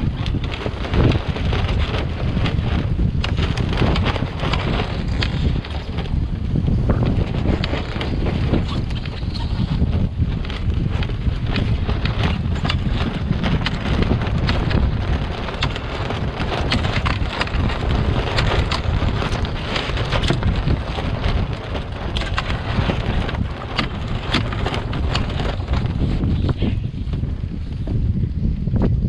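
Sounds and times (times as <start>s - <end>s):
water splashing along boat hull: 0.0s - 26.7s
wind buffeting microphone: 0.0s - 29.0s.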